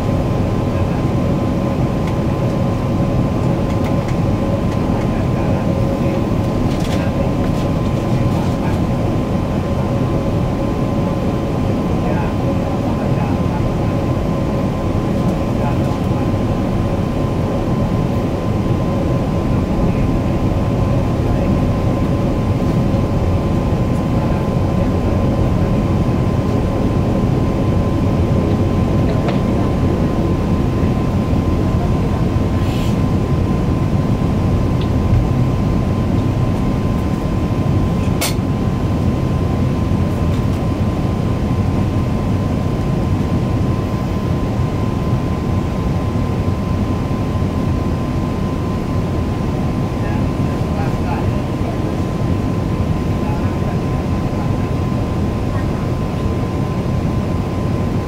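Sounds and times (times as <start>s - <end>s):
aircraft cabin engine roar: 0.0s - 58.0s
thin steady whine: 0.0s - 58.0s.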